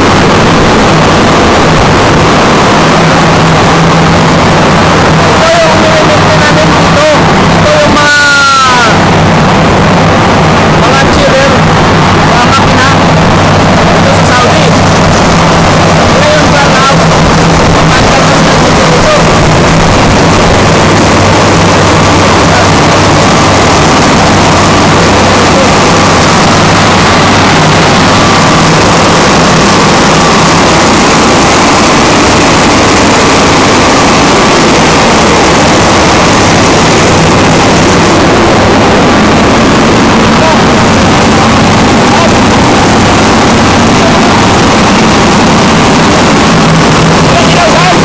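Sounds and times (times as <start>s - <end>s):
generator engine drone: 0.0s - 48.0s.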